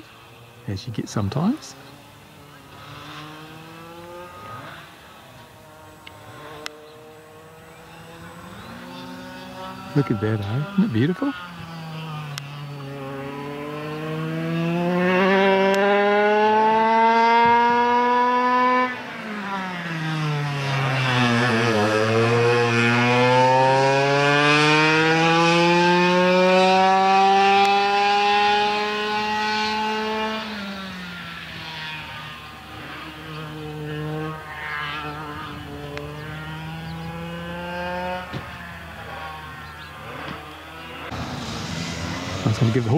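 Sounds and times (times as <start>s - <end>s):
go-kart engines revving: 0.0s - 42.9s.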